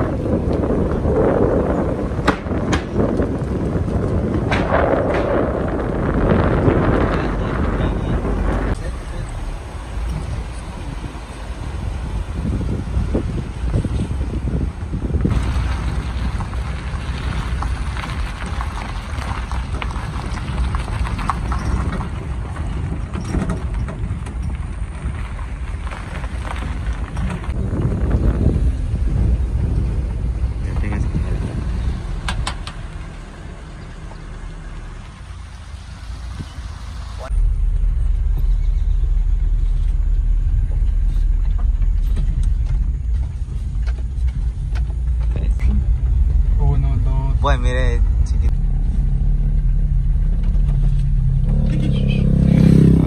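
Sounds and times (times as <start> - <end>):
vehicle rumbling on dirt road: 0.0 - 53.0
wind buffeting microphone: 0.0 - 53.0.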